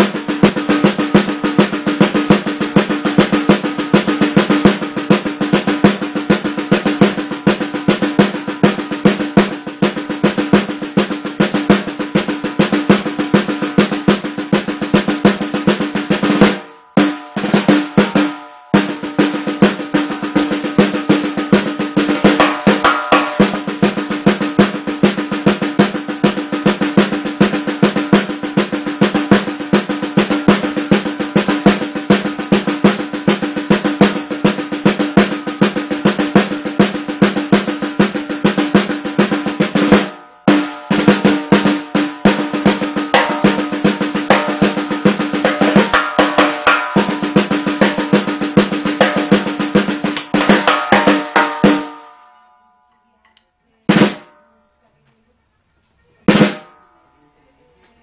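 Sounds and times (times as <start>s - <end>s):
snare drum rolls: 0.0s - 52.1s, 53.9s - 54.4s, 56.3s - 56.8s.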